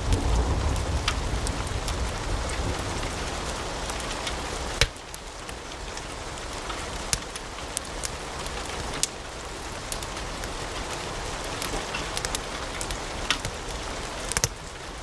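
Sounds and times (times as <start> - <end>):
fireplace logs crackling and popping: 0.0 - 15.0.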